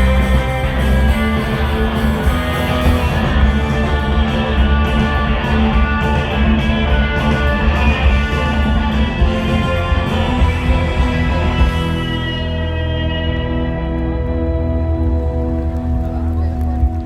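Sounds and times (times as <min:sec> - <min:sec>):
instrumental band music: 0:00.0 - 0:16.2
bass line: 0:00.0 - 0:17.0
guitar: 0:00.0 - 0:17.0.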